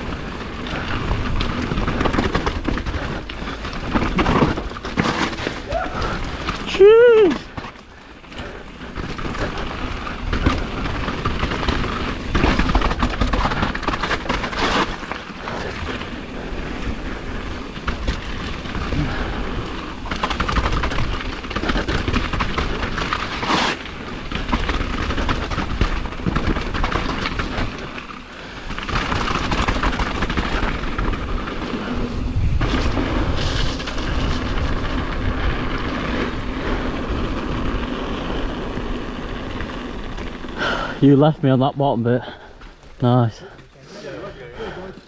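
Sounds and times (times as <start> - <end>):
wind rumbling on microphone: 0.0 - 41.4
bike knocking and rattling: 0.0 - 45.0
tyres crunching over stones: 0.0 - 45.0.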